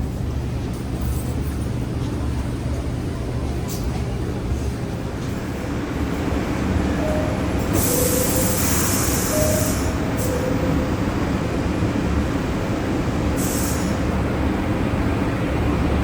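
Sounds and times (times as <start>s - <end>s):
subway train rumbling on rails: 0.0s - 16.0s.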